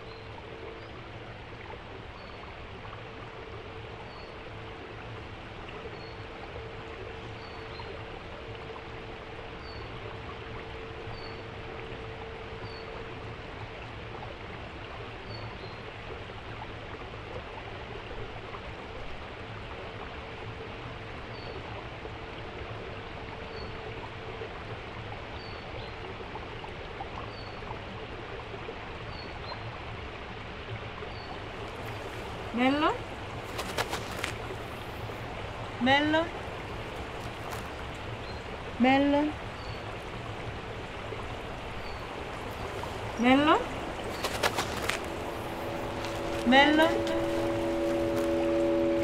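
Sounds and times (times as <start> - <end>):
rushing water: 0.0 - 49.0.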